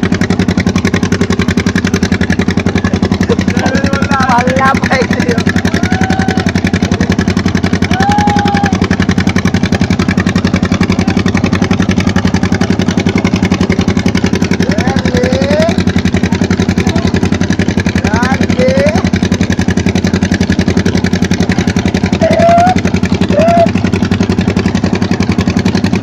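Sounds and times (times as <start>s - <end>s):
boat engine throbbing: 0.0s - 26.0s.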